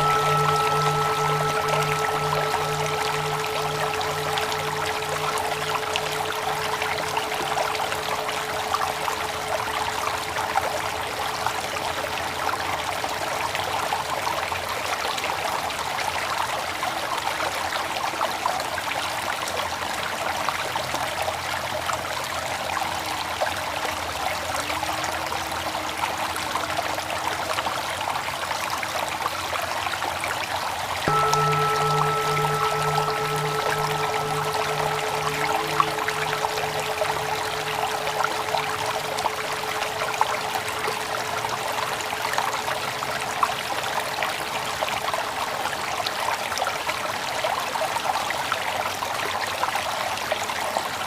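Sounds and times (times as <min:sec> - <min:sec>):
flowing water: 0:00.0 - 0:20.4, 0:21.0 - 0:51.0.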